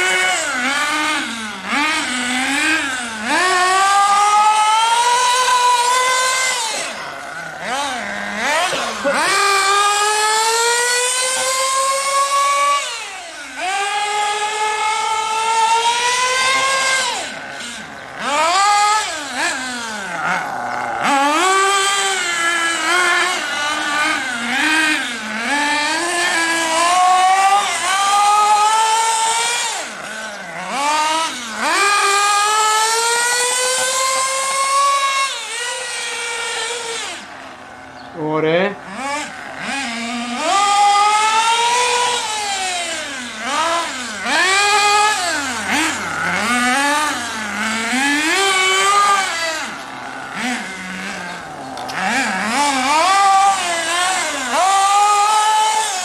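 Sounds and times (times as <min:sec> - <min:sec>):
model nitro engine revving: 0:00.0 - 0:56.0.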